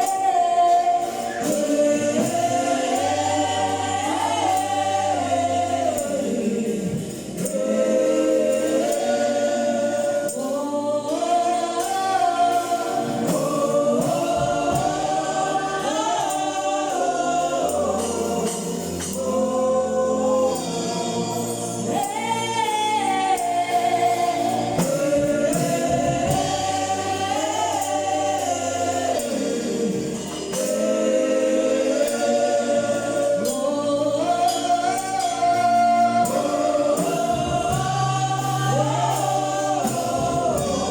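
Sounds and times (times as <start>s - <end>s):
choir singing gospel: 0.0s - 40.9s.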